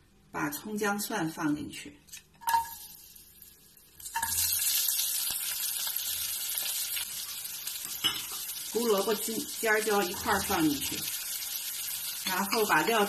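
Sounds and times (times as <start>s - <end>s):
food sizzling in hot oil: 2.4s - 13.0s.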